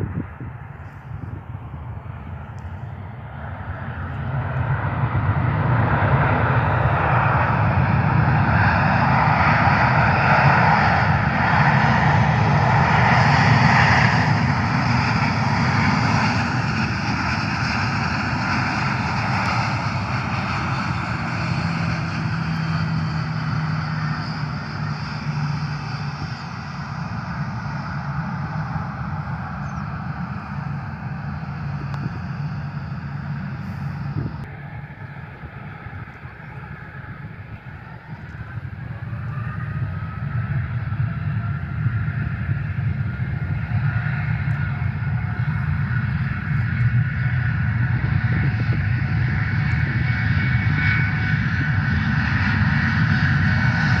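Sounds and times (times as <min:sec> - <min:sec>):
aircraft engines passing overhead: 0:00.0 - 0:54.0.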